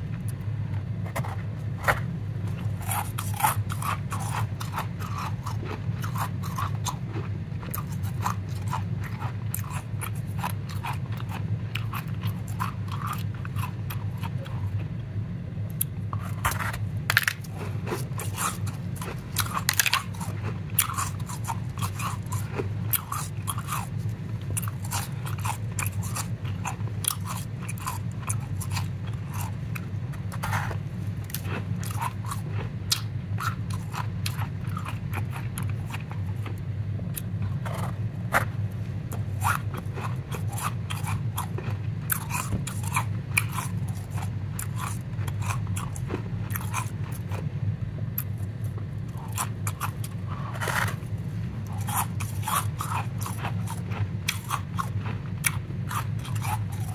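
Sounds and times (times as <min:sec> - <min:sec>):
low hum: 0:00.0 - 0:56.9
ice crunching being chewed: 0:00.1 - 0:15.0, 0:15.7 - 0:47.5, 0:48.2 - 0:56.9.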